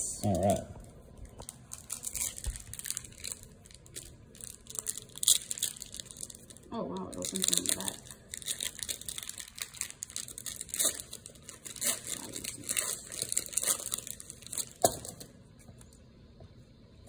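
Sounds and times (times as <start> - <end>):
foil wrapper crinkling and tearing: 0.4 - 15.3.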